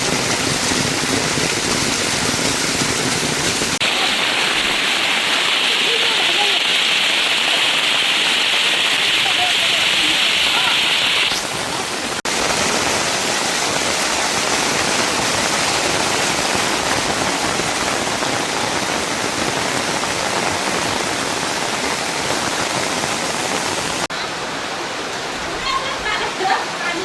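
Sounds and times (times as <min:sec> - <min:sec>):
heavy rushing water: 0:00.0 - 0:27.0.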